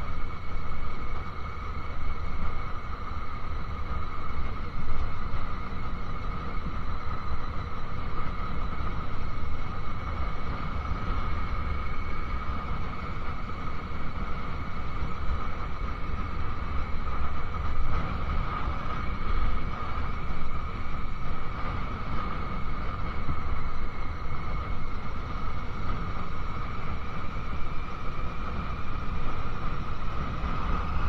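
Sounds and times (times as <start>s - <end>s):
wind rush on microphone: 0.0s - 31.0s.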